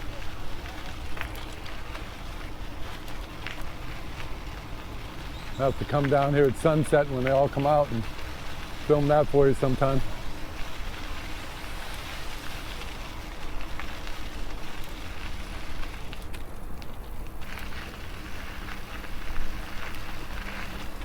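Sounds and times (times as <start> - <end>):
crackling riding noise: 0.0 - 21.0.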